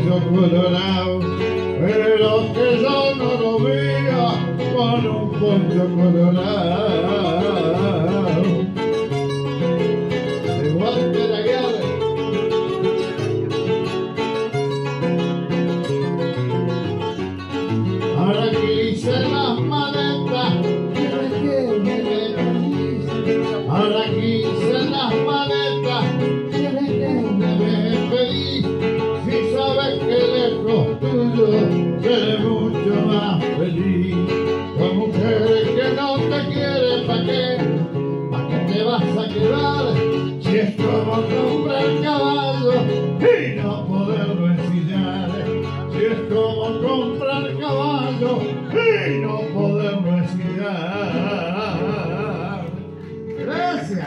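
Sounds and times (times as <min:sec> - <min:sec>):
folk music with acoustic guitar: 0:00.0 - 0:54.0.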